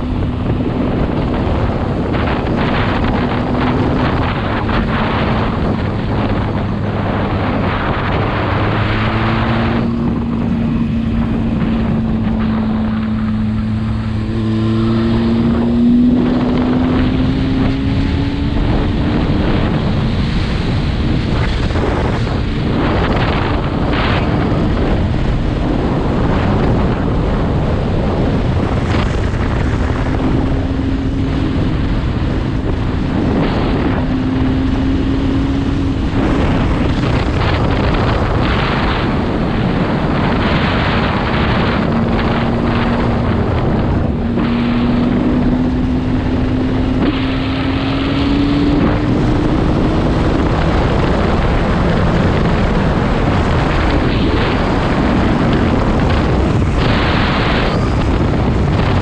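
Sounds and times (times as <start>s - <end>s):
motorcycle engine accelerating: 0.0s - 59.0s
wind buffeting microphone: 0.0s - 59.0s.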